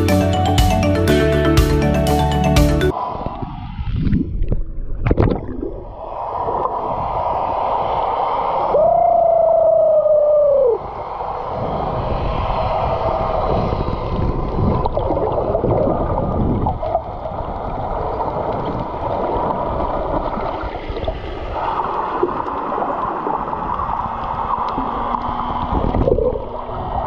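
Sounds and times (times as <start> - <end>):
underwater water rushing: 2.9 - 27.0.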